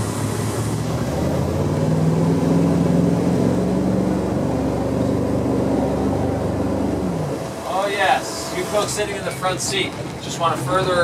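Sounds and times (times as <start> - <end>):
jet boat engine running: 0.0 - 11.0
rushing water: 0.0 - 11.0
wind: 0.0 - 11.0.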